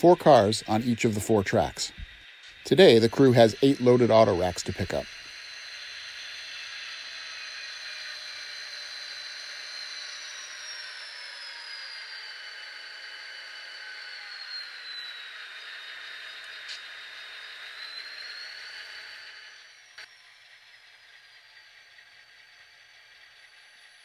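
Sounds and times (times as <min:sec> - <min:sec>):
model locomotive whirring: 0:00.0 - 0:24.0.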